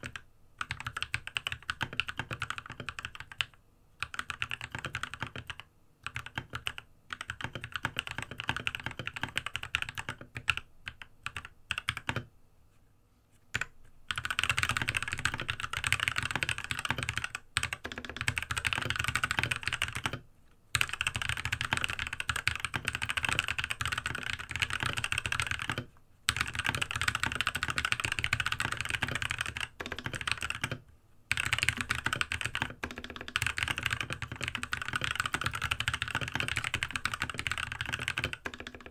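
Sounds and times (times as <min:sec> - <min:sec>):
mechanical keyboard typing: 0:00.0 - 0:12.3, 0:13.5 - 0:38.9.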